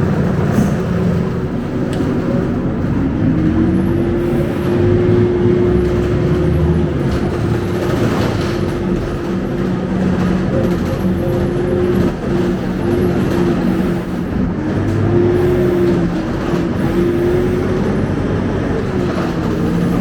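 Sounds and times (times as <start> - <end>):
bus engine hum: 0.0 - 20.0
constant engine whine: 0.0 - 20.0.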